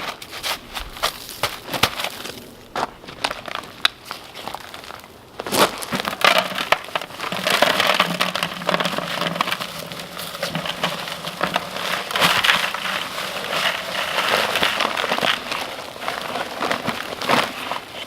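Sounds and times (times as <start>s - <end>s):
paper bag crinkling: 0.0s - 18.0s.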